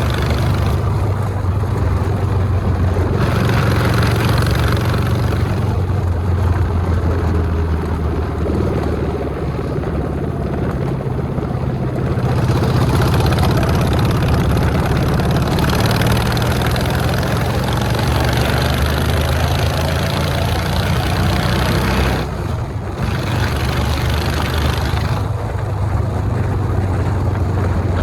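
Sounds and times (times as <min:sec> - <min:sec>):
motorcycle engine running: 0:00.0 - 0:28.0
wind rush on microphone: 0:00.0 - 0:28.0.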